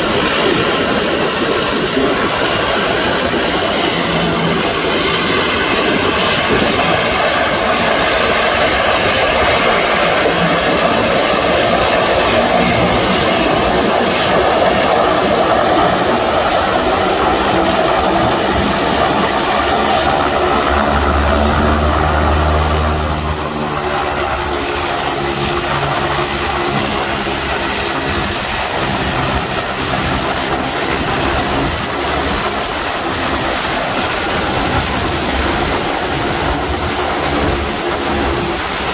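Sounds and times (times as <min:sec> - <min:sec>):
high turbine whine: 0:00.0 - 0:38.9
turboprop engines running: 0:00.0 - 0:38.9.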